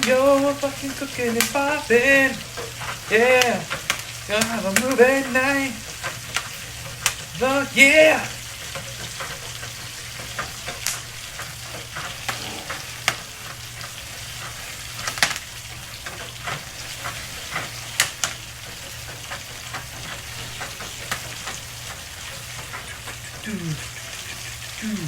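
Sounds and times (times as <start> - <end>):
oil sizzling: 0.0 - 25.0
popcorn popping: 0.0 - 25.0.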